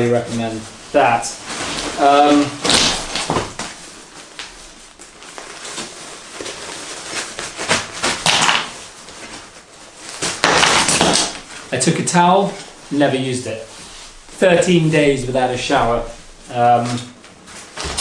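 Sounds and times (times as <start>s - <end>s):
nylon gear rustling: 0.2s - 18.0s.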